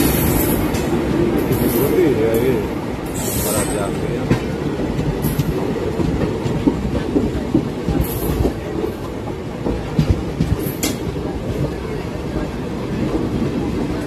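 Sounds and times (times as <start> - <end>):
clickety-clack over rail joints: 0.0 - 14.0
train wheels rumbling on track: 0.0 - 14.0.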